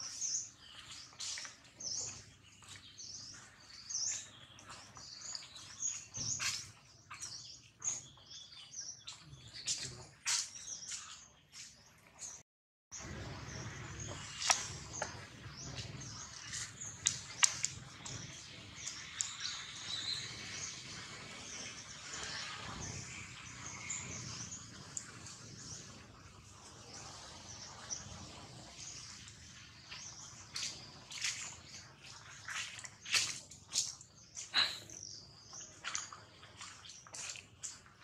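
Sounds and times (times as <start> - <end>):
birds chirping: 0.0 - 12.4, 13.0 - 38.0.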